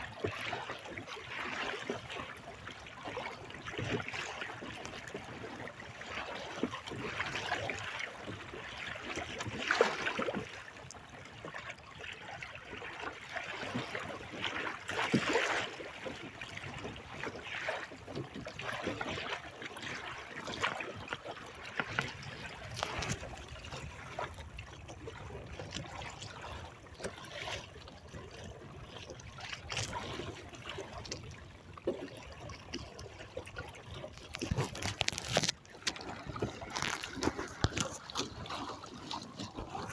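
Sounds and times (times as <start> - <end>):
water splashing along hull: 0.0 - 39.9.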